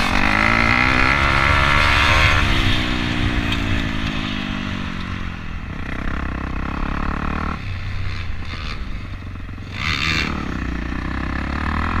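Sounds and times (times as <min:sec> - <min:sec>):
dirt bike engine under throttle: 0:00.0 - 0:12.0.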